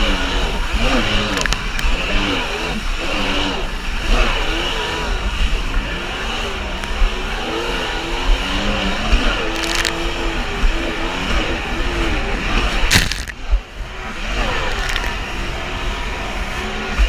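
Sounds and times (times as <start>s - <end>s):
jet ski engine running: 0.0s - 17.0s
rushing water: 0.0s - 17.0s
wind rumble on microphone: 0.0s - 17.0s.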